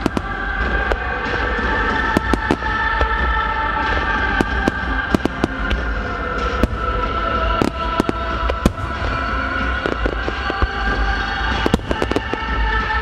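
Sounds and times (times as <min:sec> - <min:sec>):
fireworks bursting with sharp bangs: 0:00.0 - 0:13.0
music playing: 0:00.0 - 0:13.0.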